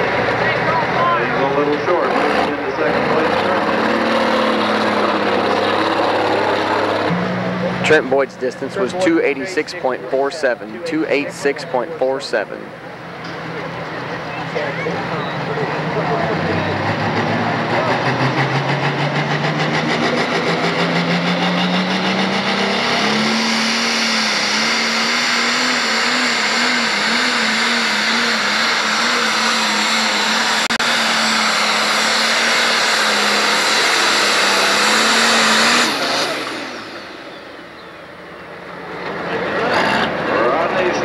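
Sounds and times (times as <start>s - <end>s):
diesel engine at full throttle: 0.0s - 41.0s.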